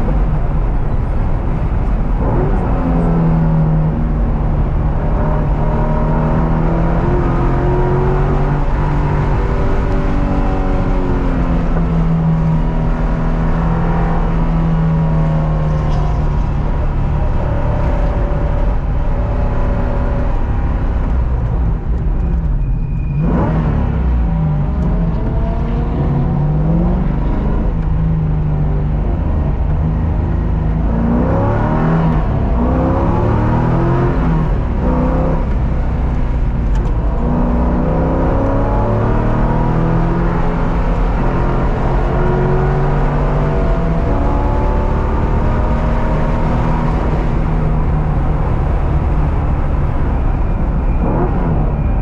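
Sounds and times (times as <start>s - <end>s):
car engine accelerating hard: 0.0s - 52.0s.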